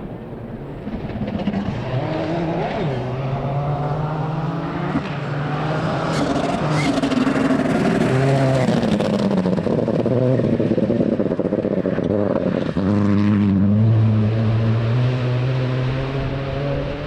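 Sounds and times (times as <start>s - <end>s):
rally car engine revving: 0.1s - 17.0s.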